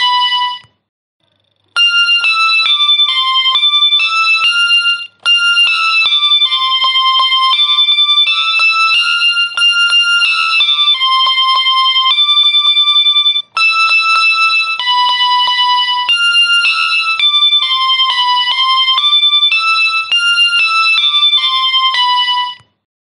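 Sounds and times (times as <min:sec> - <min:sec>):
high-pitched keyboard melody: 0:00.0 - 0:00.8, 0:01.7 - 0:22.8.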